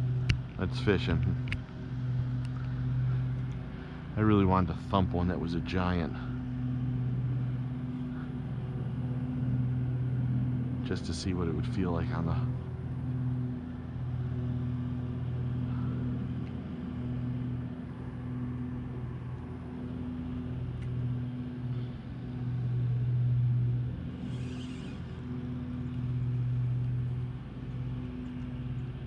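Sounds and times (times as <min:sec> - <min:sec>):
low motor hum: 0:00.0 - 0:29.0.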